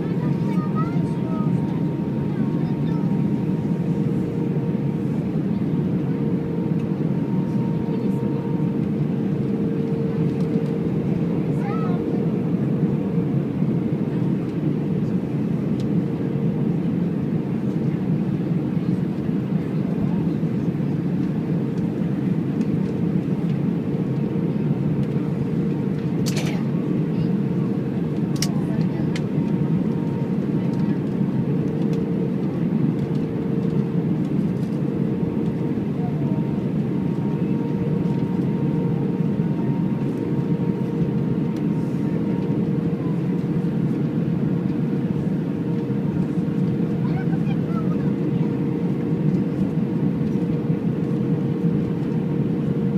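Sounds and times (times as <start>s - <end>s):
airplane cabin engine and airflow noise: 0.0s - 52.9s.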